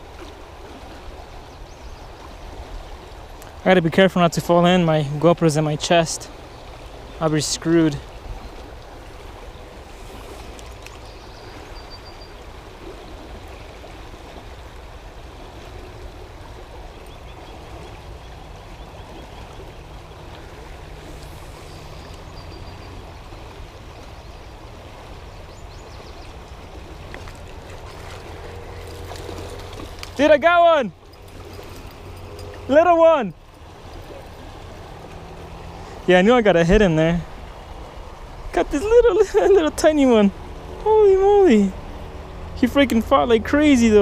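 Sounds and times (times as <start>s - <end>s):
river water rushing: 0.0s - 44.0s.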